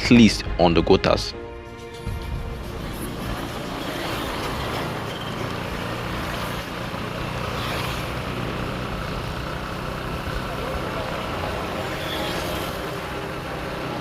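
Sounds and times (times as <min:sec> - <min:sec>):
engine and tyres rumbling on road: 0:01.5 - 0:14.0.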